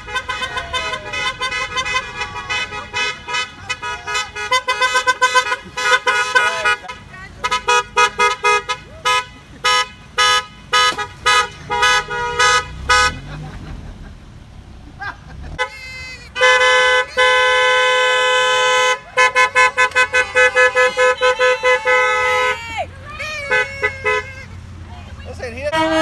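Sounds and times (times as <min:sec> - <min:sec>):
car horns honking: 0:00.0 - 0:26.0
passing car noise: 0:00.0 - 0:26.0.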